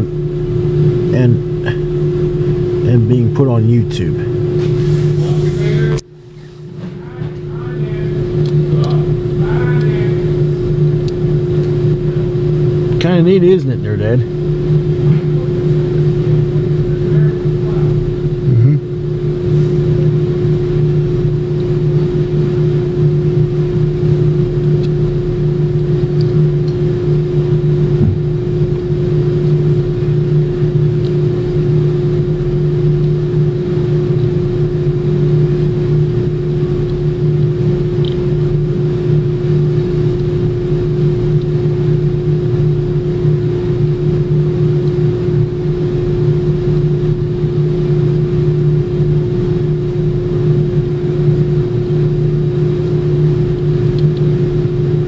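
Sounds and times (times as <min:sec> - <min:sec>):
mechanical drone: 0:00.0 - 0:06.1, 0:07.0 - 0:55.0.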